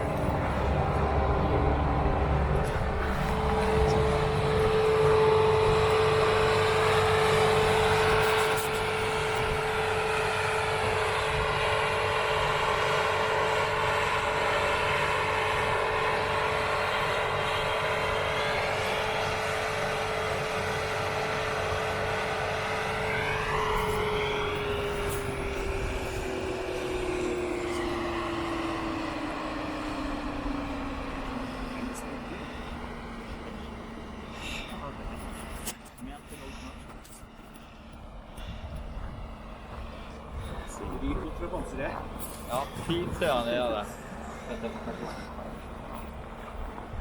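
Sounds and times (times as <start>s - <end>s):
whining motor: 0.0s - 47.0s.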